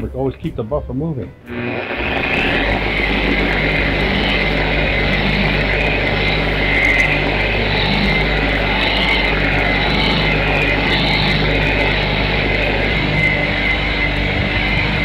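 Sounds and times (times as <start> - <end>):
electric buffer motor hum: 1.4 - 15.0.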